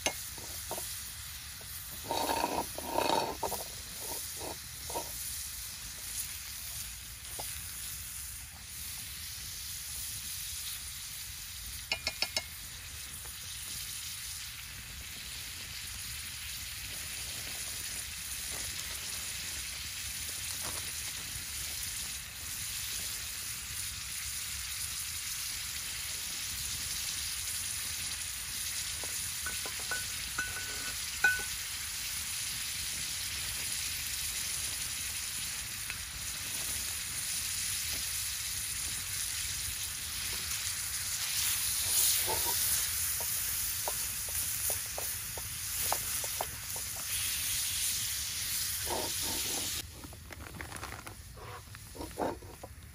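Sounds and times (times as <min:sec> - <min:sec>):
meat sizzling in skillet: 0:00.0 - 0:50.2, 0:51.2 - 0:52.9.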